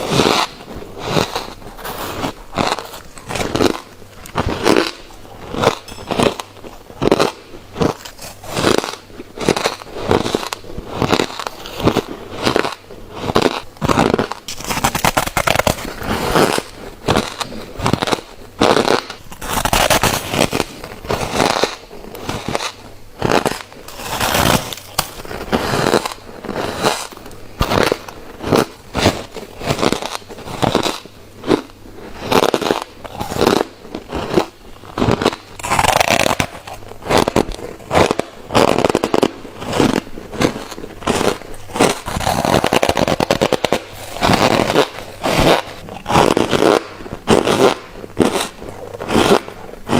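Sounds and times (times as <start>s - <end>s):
biting and chewing frost: 0.0s - 49.9s.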